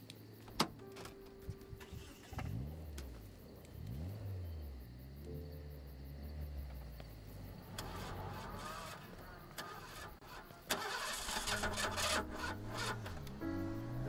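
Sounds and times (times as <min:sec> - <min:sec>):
car engine starting and revving: 0:00.6 - 0:14.0.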